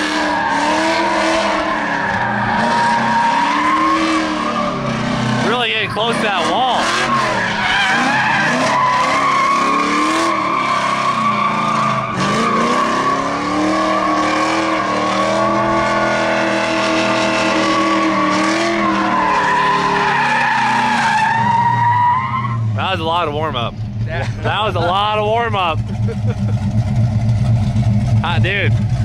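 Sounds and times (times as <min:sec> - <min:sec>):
car engine at high revs: 0:00.0 - 0:21.5, 0:22.4 - 0:29.0
tyres spinning and squealing: 0:00.0 - 0:26.8.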